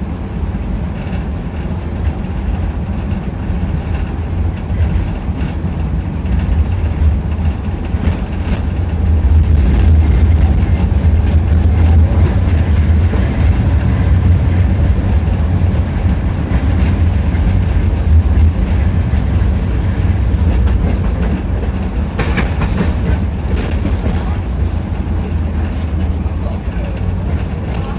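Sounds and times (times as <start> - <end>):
tram clatter: 0.0 - 27.9
tram wheels rumbling on rails: 0.0 - 27.9.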